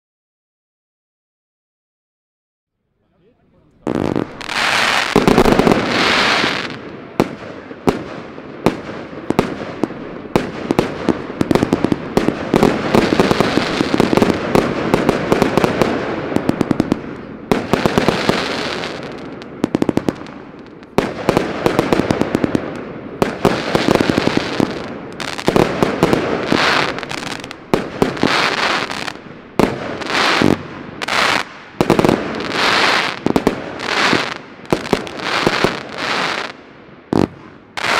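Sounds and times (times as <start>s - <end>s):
fireworks launches and bursts: 3.7s - 37.9s.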